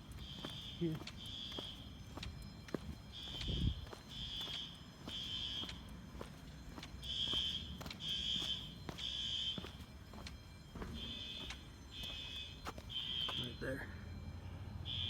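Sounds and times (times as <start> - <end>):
fire alarm horn beeps: 0.0 - 5.9, 7.0 - 15.0.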